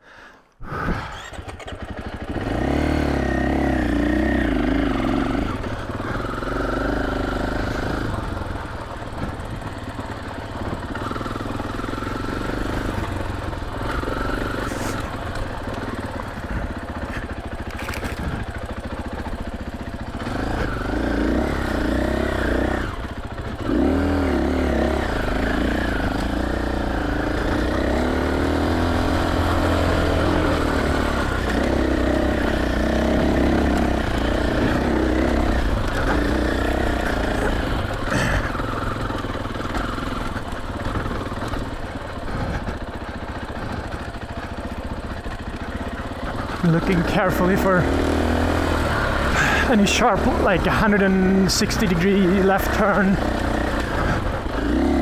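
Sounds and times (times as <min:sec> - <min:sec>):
dirt bike engine revving: 0:01.0 - 0:55.0.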